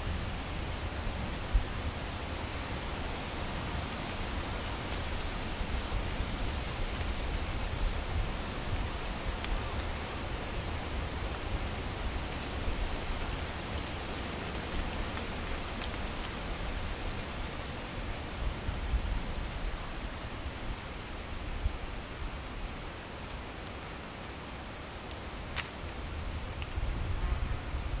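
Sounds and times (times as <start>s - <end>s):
wind rustling leaves: 0.0s - 28.0s.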